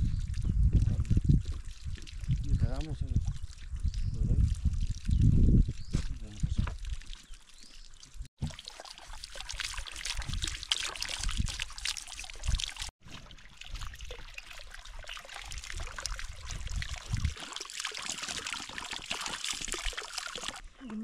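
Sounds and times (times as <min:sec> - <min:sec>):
hose water splashing into bucket: 0:00.0 - 0:20.6.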